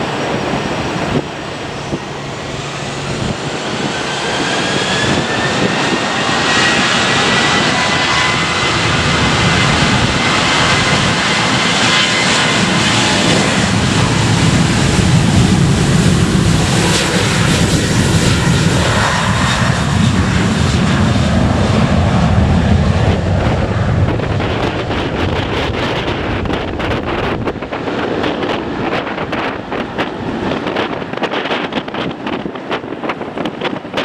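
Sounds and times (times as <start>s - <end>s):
jet engines low rumble: 0.0s - 34.0s
wind buffeting microphone: 0.0s - 34.0s.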